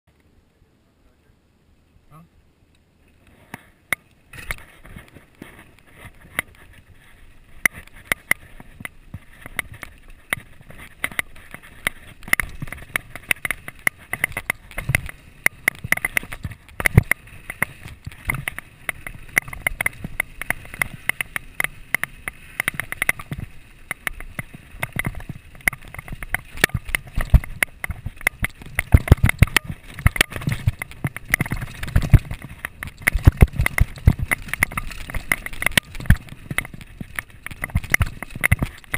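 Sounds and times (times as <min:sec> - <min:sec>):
mountain bike rattling on gravel: 0:04.2 - 0:38.9
bike thumps over bumps: 0:06.1 - 0:38.9.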